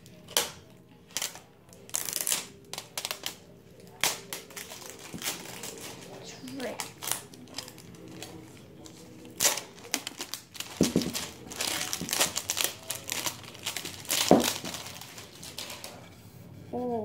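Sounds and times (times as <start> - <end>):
plastic wrap crinkling: 1.1 - 16.1.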